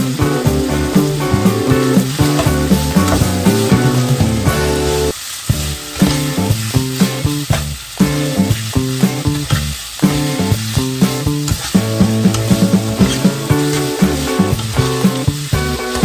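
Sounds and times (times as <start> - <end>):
background music melody: 0.0 - 16.0
food sizzling in a hot pan: 0.0 - 16.0.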